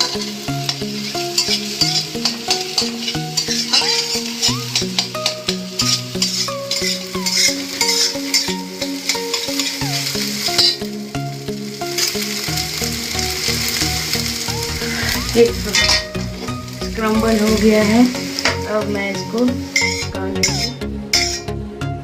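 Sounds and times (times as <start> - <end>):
spatula scraping and tapping pan: 0.0 - 10.9, 13.4 - 21.5
eggs sizzling in oil: 0.0 - 21.6
background music: 0.0 - 22.0.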